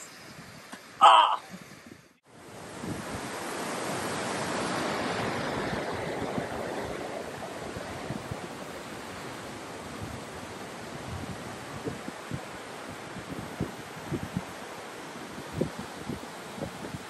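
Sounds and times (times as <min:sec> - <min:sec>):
wind buffeting microphone: 0:01.5 - 0:17.0.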